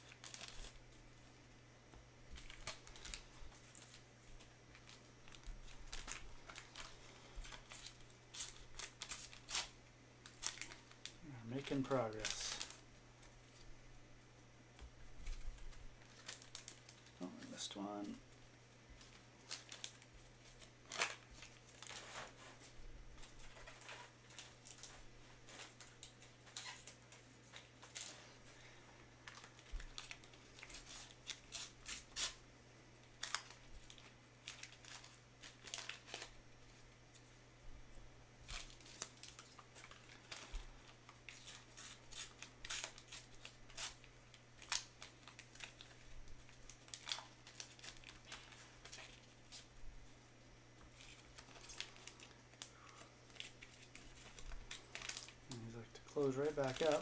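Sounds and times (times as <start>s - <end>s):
foil wrappers crinkling: 0.0s - 1.3s, 2.3s - 13.7s, 15.1s - 32.4s, 33.0s - 37.4s, 38.4s - 50.2s, 50.8s - 57.0s
low electrical hum: 0.0s - 57.0s.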